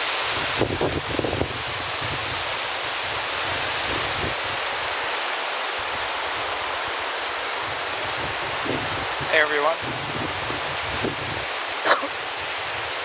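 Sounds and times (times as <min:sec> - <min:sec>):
small waterfall rushing into pond: 0:00.0 - 0:13.0.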